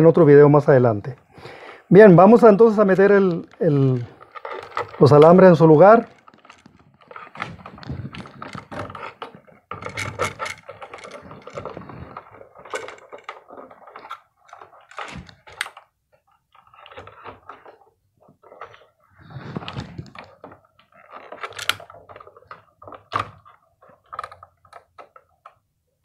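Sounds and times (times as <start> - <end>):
wires rustling and scraping in plastic box: 1.8 - 25.6.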